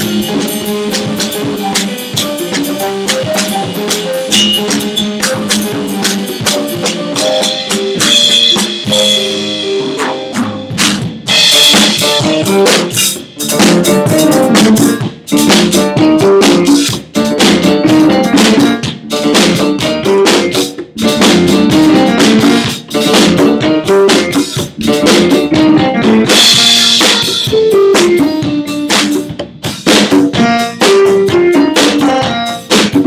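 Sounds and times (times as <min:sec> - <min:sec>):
bass drum and snare beat: 0:00.0 - 0:33.0
small band playing live: 0:00.0 - 0:33.0.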